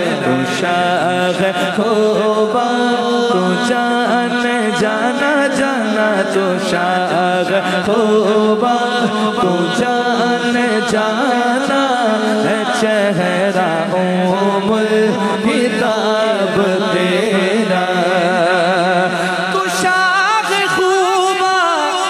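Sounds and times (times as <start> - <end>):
man singing through loudspeaker: 0.0 - 22.0.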